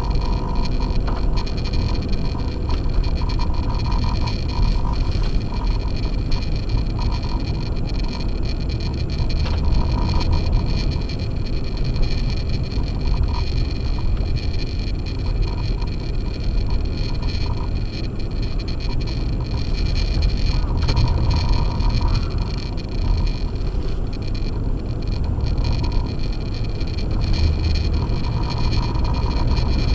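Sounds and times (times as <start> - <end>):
tyres and engine rumble: 0.0 - 29.9.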